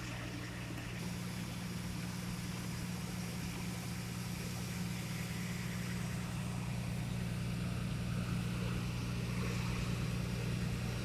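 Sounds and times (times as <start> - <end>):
engine idling: 1.0 - 11.0.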